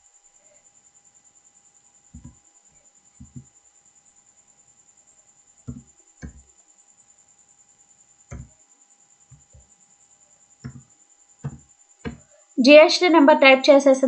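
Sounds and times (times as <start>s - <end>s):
faint electrical whine: 0.0s - 14.0s.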